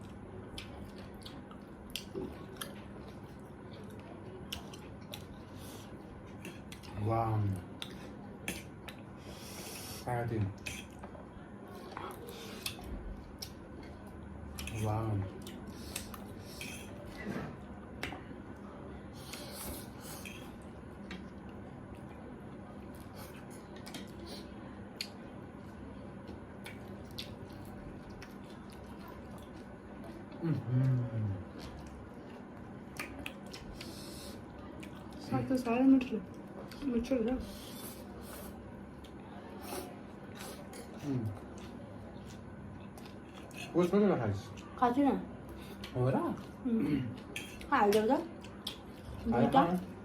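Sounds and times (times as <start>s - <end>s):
chewing with wet mouth smacks: 0.0s - 7.0s, 7.6s - 9.2s, 10.5s - 11.2s, 11.8s - 17.2s, 19.2s - 35.3s, 36.2s - 44.8s, 45.4s - 50.0s.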